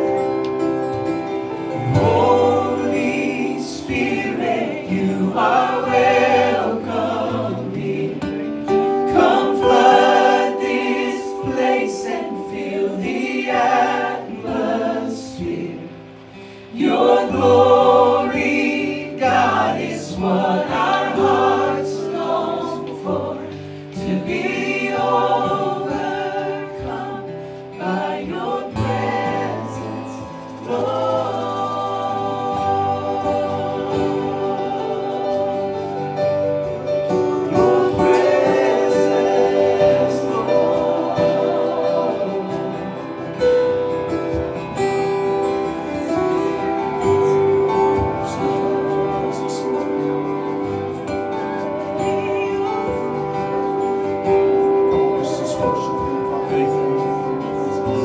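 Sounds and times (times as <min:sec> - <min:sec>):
group singing worship song: 0:00.0 - 0:58.0
sustained instrumental chords: 0:00.0 - 0:58.0.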